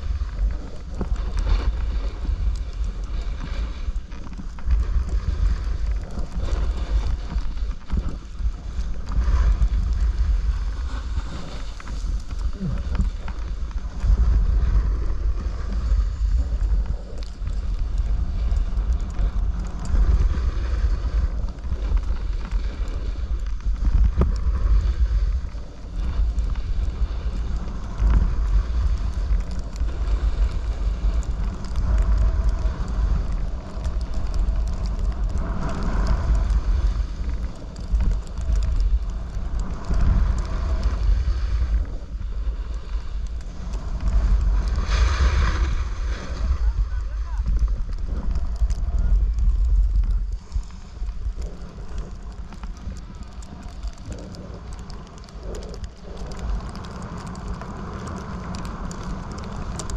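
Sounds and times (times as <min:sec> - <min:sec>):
snowboard edges scraping snow: 0:00.0 - 0:37.7, 0:39.7 - 0:52.0
wind buffeting microphone: 0:00.0 - 0:59.9.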